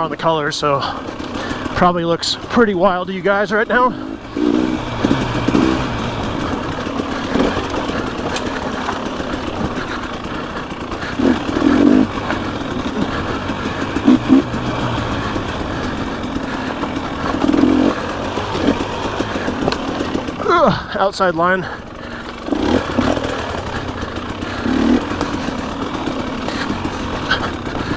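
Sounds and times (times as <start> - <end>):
dirt bike engine running: 0.0 - 27.9.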